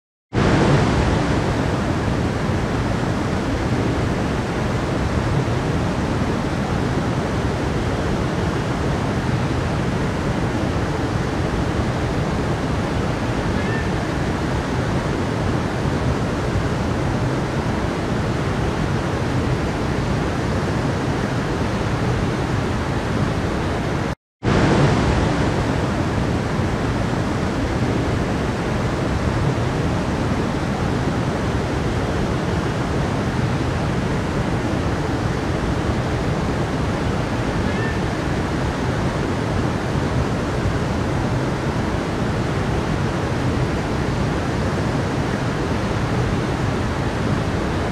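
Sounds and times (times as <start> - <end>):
stream rushing over rocks: 0.4 - 47.9.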